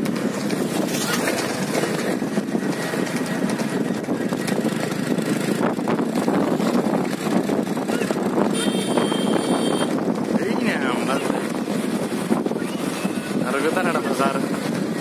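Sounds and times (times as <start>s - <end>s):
motorcycle and road noise: 0.0s - 15.0s
wind rumbling on microphone: 0.0s - 15.0s.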